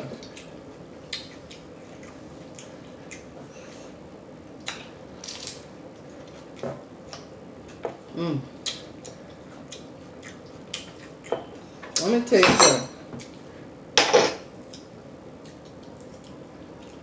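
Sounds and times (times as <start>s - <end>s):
person chewing with smacking: 0.0s - 12.0s, 14.6s - 17.0s.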